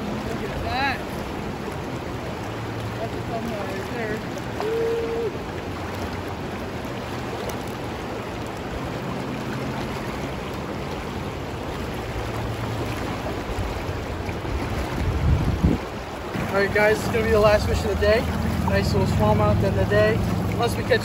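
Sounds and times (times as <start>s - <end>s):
river water rushing over rocks: 0.0s - 21.0s.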